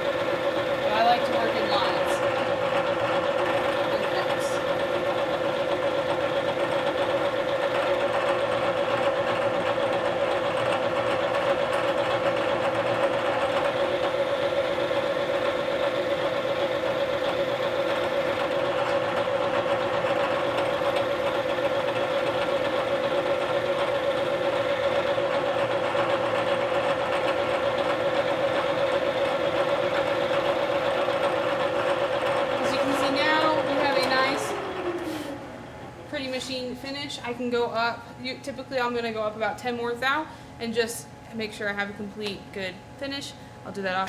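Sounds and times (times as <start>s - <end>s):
milling machine humming: 0.0s - 39.4s.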